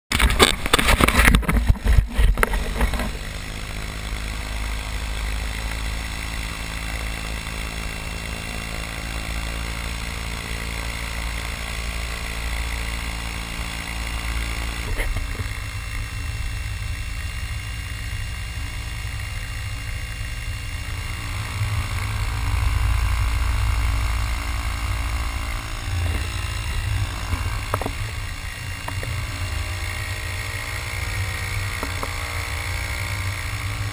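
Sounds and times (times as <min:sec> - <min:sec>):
electric motor and propeller hum: 0:00.1 - 0:33.9.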